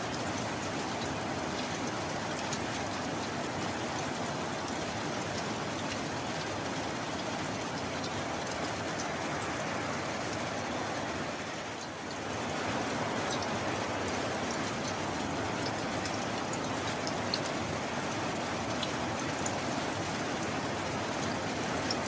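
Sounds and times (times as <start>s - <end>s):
raindrop ticks: 0.0s - 22.0s
steady rain falling: 0.0s - 22.0s.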